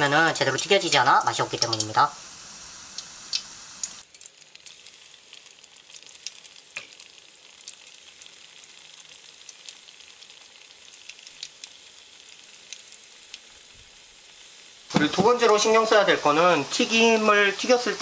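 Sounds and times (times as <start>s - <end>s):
deep-frying sizzle with pops: 0.0s - 18.0s.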